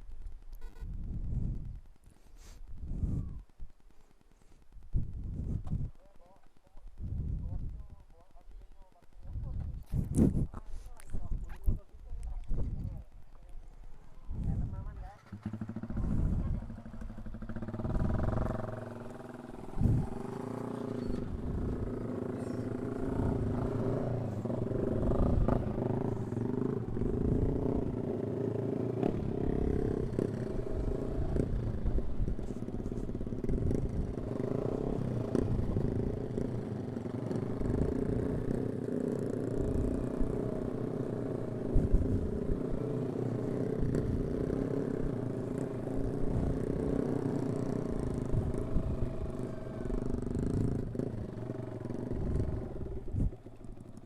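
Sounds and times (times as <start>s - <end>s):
motorcycle engine running: 0.0s - 54.0s
wind buffeting microphone: 0.9s - 1.9s, 2.6s - 3.7s, 4.8s - 6.0s, 6.9s - 8.1s, 9.2s - 28.2s, 29.0s - 36.7s, 39.5s - 53.8s.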